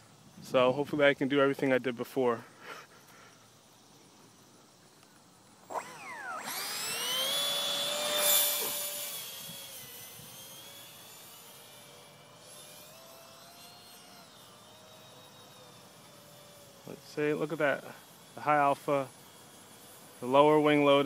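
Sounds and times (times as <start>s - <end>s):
electric ducted fan whine: 0.0s - 21.0s.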